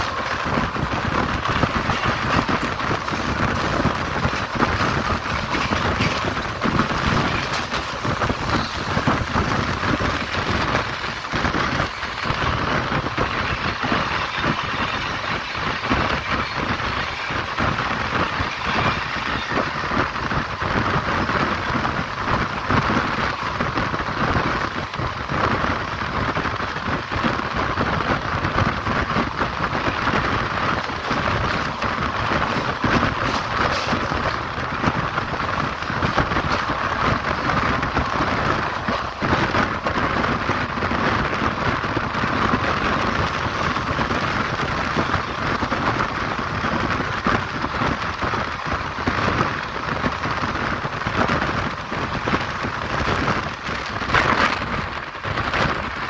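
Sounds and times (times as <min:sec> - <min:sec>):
clatter from the rails: 0:00.0 - 0:56.0
wheels rolling: 0:00.0 - 0:56.0
wind rushing: 0:00.0 - 0:56.0.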